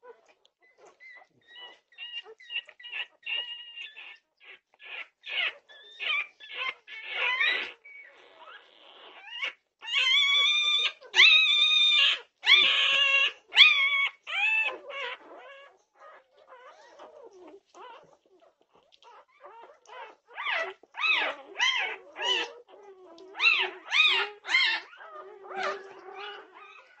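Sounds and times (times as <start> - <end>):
puppies whimpering: 0.0 - 27.0
puppies squealing: 0.1 - 27.0.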